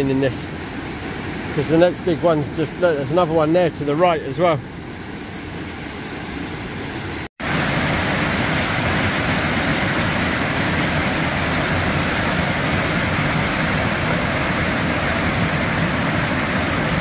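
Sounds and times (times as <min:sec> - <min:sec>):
waterfall rushing over rocks: 0:00.0 - 0:06.0, 0:06.8 - 0:17.0.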